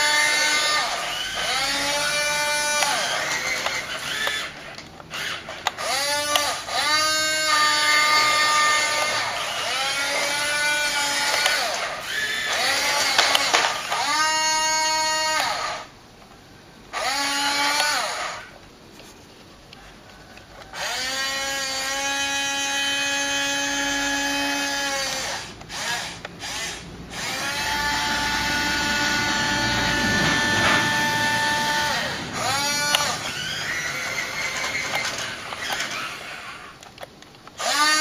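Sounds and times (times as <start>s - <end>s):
toy electric motors whining: 0.0s - 16.3s, 16.9s - 18.6s, 19.7s - 38.0s.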